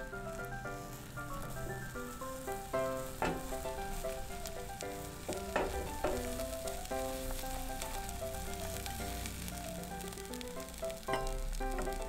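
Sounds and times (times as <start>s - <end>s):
background music: 0.0s - 12.0s
egg sizzling in a pan: 0.0s - 12.0s.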